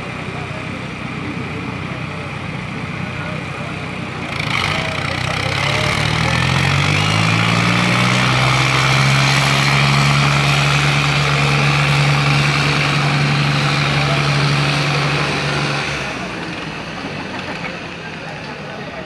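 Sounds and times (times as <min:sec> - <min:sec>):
tractor diesel engines at full load: 0:00.0 - 0:19.0.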